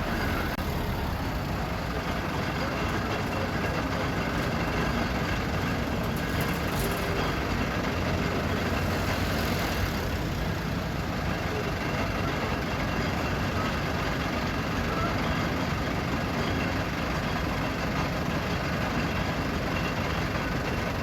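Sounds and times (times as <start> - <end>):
diesel engines idling: 0.0 - 21.0
street noise: 0.0 - 21.0.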